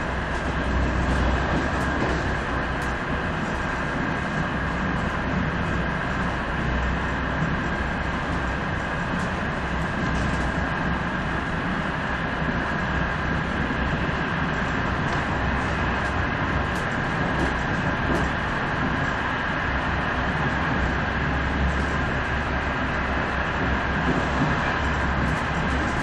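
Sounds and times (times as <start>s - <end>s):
train rumble and hiss: 0.0s - 26.0s.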